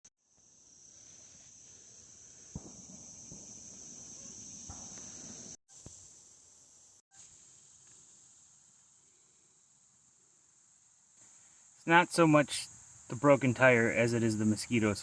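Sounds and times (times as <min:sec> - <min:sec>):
crickets chirping: 0:00.3 - 0:15.0.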